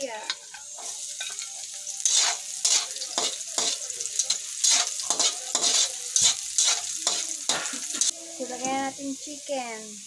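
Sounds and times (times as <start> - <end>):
garlic and onion sizzling in oil: 0.0 - 10.0
spatula scraping a pan: 0.2 - 8.9.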